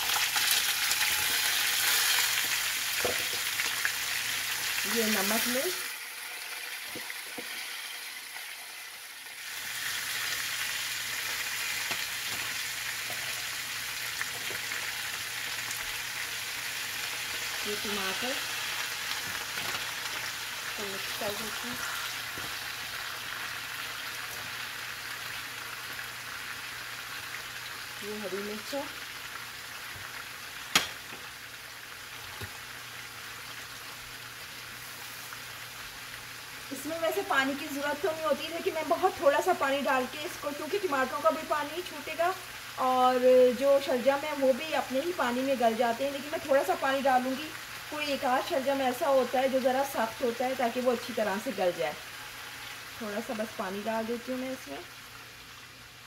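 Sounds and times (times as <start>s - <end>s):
turnip slices sizzling in oil: 0.0s - 56.0s.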